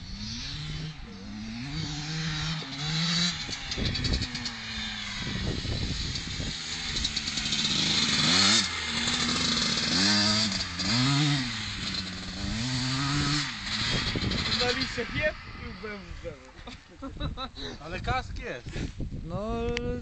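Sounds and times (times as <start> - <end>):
motocross bike engine revving: 0.0 - 17.2.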